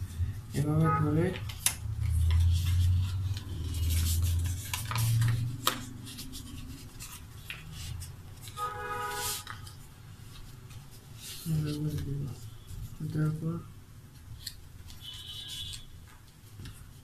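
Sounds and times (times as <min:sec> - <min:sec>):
paper crackling: 0:00.6 - 0:13.4, 0:14.0 - 0:17.0
paper rubbing: 0:01.4 - 0:13.3, 0:14.4 - 0:17.0.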